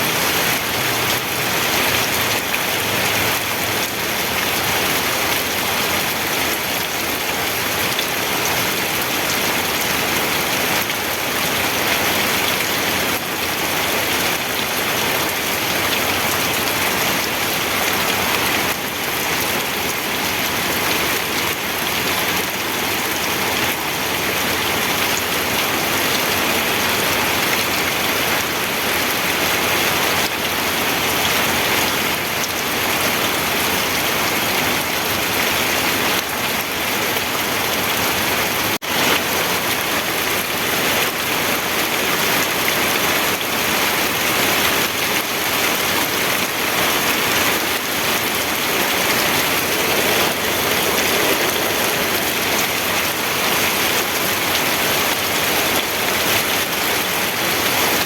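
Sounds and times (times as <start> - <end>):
heavy rain on a surface: 0.0 - 58.0.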